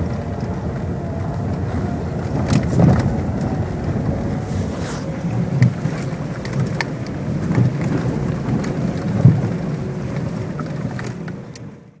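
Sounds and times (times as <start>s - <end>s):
car road rumble: 0.0s - 12.0s.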